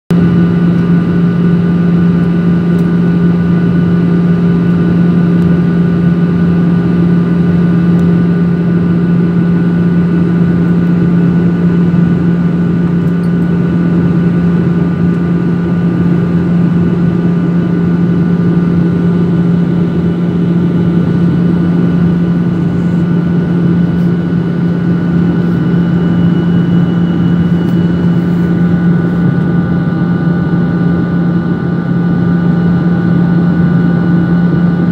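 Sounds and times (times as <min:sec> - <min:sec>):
airliner cabin engine noise: 0:00.1 - 0:34.9.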